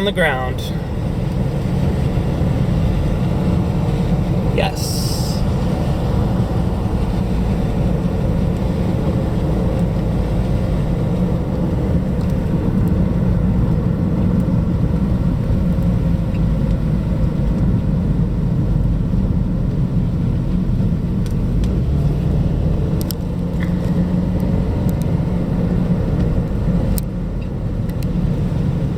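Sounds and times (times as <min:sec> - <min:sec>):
car cabin engine and road rumble: 0:00.0 - 0:28.9.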